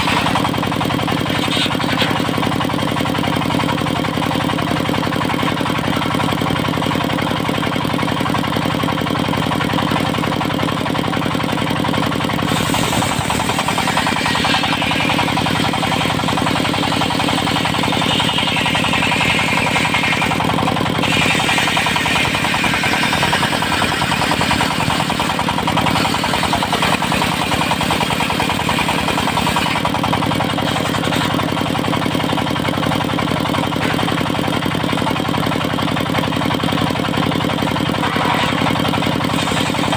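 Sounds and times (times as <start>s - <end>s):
circular saw blade cutting wood: 0.0s - 7.8s, 11.9s - 32.5s, 33.5s - 35.2s, 36.7s - 39.9s
diesel engine running: 0.0s - 39.9s.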